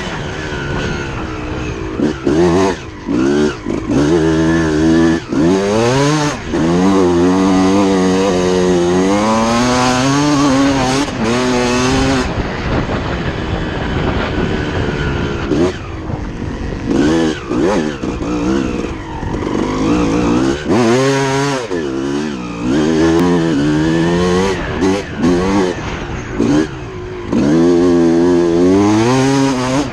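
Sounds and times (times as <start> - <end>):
motocross bike engine revving: 0.0 - 29.9.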